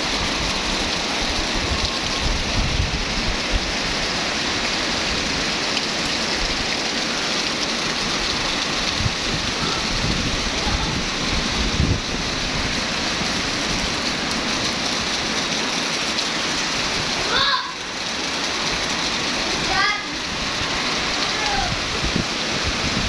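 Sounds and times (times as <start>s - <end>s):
heavy rain pouring: 0.0s - 23.0s
strong wind: 0.0s - 23.0s.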